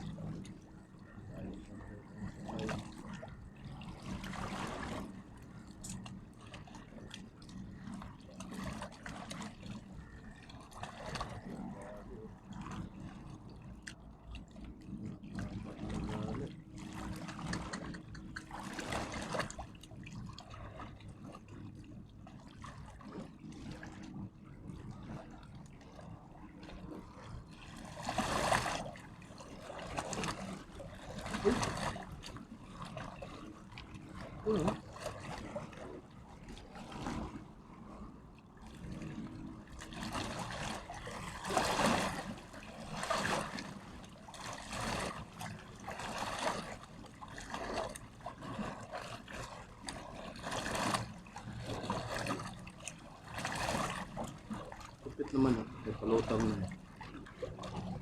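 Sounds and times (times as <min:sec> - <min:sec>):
louder water swishes: 0:00.0 - 0:58.0
water trickling and splashing: 0:00.0 - 0:58.0.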